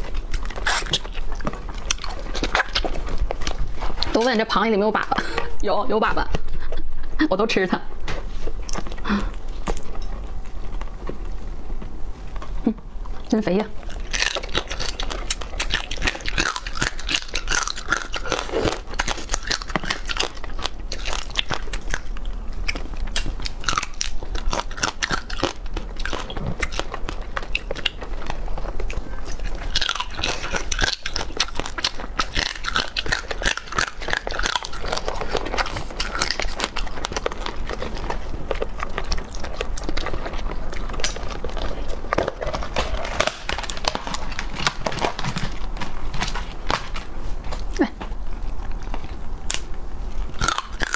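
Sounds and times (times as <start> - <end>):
crunching and chewing crab shell: 0.0 - 4.4, 8.4 - 50.9.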